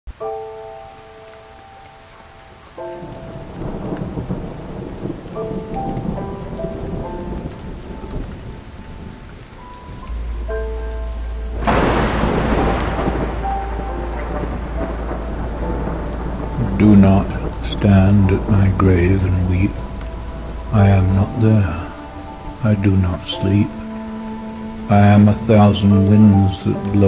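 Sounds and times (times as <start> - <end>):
soft sustained musical notes: 0.1 - 27.0
steady rain: 0.1 - 27.0
thunderclap: 2.8 - 27.0.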